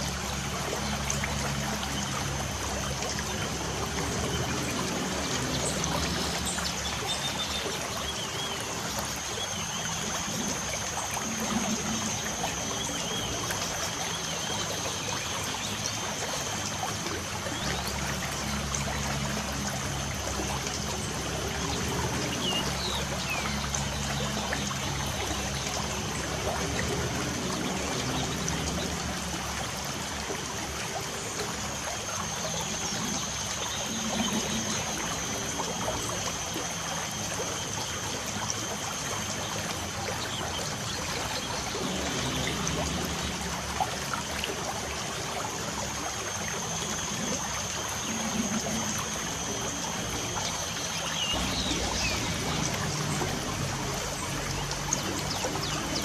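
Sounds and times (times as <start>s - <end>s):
light rain: 0.0s - 56.0s
trickling water: 0.0s - 56.0s.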